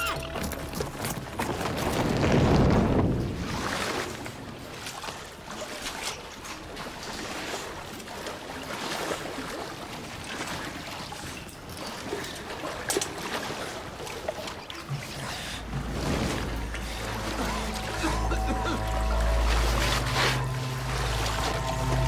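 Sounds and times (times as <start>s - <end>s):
water sloshing and trickling: 0.0s - 22.0s.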